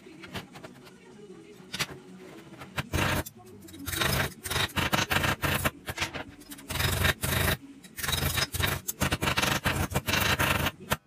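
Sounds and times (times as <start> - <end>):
scraping and rubbing: 0.0 - 11.0.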